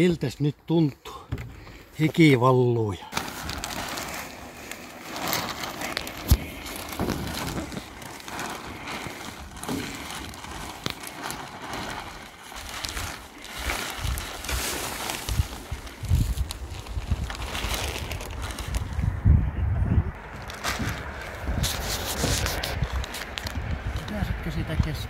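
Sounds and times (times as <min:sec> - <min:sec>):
plastic sheet rustling: 0:03.0 - 0:19.2, 0:20.2 - 0:24.1.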